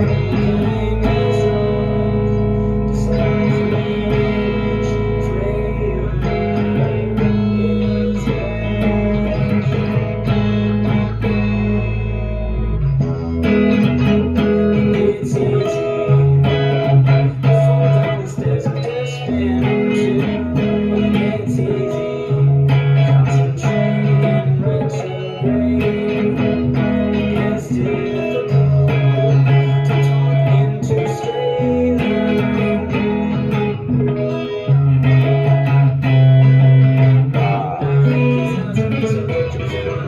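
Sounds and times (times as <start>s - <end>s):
instrumental rock music: 0.0s - 40.0s.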